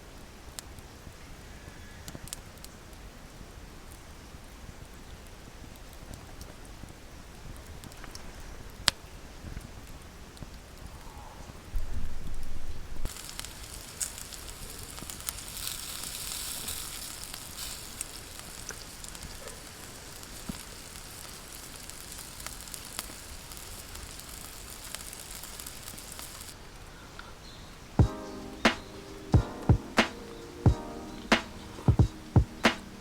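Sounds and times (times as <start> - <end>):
campfire sizzling and crackling: 2.1 - 11.0, 13.1 - 26.9, 27.9 - 33.0.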